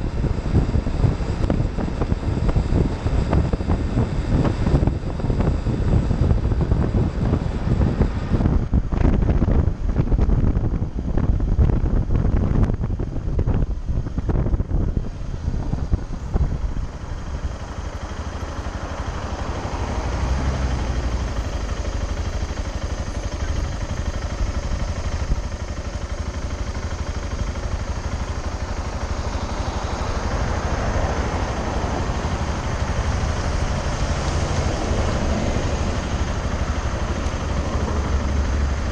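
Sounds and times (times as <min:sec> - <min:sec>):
motorcycle engine: 0:00.0 - 0:38.9
wind buffeting the microphone: 0:00.0 - 0:38.9.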